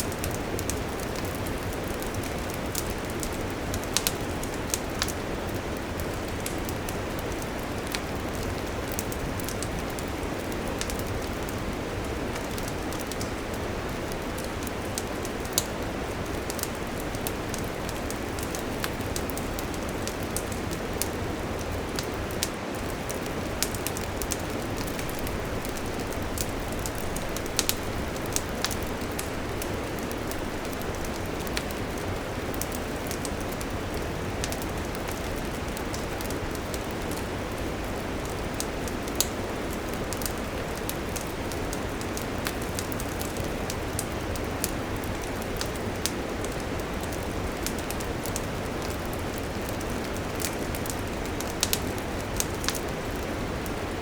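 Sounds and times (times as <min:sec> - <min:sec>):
campfire hissing: 0:00.0 - 0:54.0
fire crackles and pops: 0:00.0 - 0:54.0.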